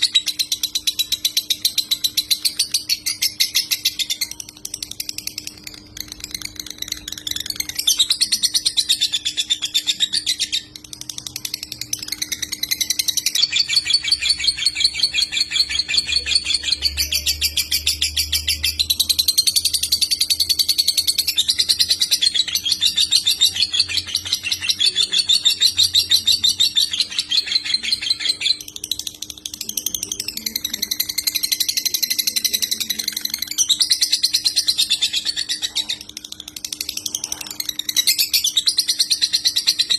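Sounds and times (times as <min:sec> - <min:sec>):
bird chattering trills: 0:00.0 - 0:39.9
faint steady hum: 0:00.0 - 0:39.9.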